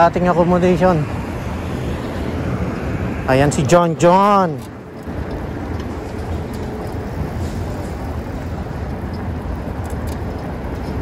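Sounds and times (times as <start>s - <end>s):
road noise: 0.0s - 11.0s
wind rumble on microphone: 0.0s - 11.0s.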